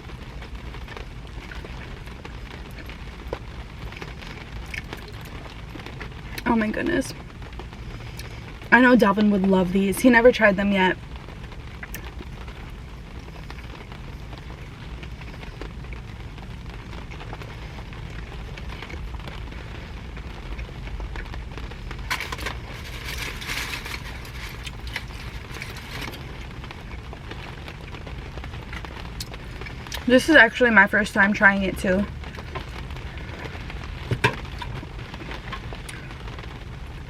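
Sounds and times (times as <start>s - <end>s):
fine crackles and clicks: 0.0s - 37.0s
rain on car roof: 0.0s - 37.0s.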